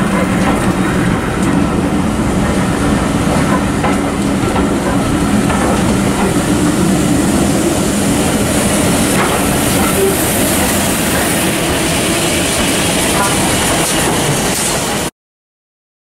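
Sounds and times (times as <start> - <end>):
wheels clicking over rail joints: 0.0 - 6.9, 8.3 - 11.7, 12.5 - 15.1
train wheels rumbling on rails: 0.0 - 15.1.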